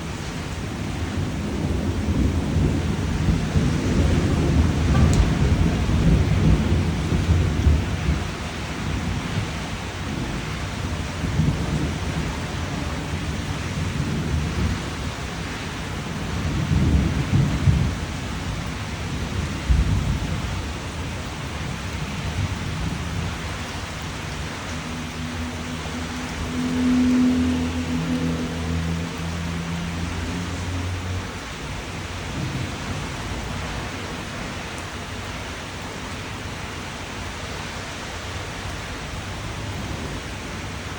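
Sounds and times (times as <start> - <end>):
thunder rumbling: 0.0 - 35.3
steady rain: 0.0 - 40.9.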